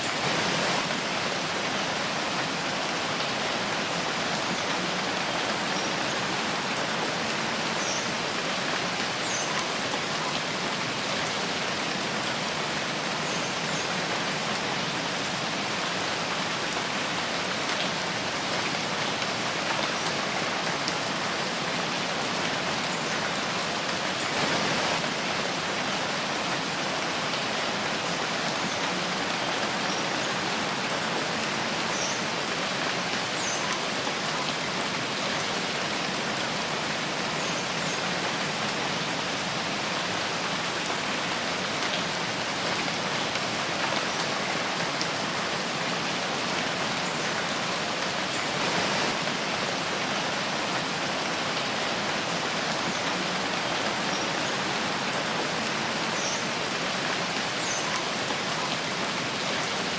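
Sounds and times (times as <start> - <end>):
rain pattering in forest: 0.0 - 59.9.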